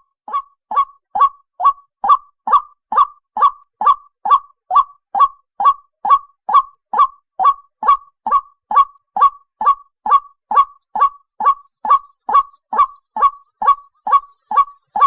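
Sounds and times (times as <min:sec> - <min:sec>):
bird calling repeated note: 0:00.0 - 0:15.0.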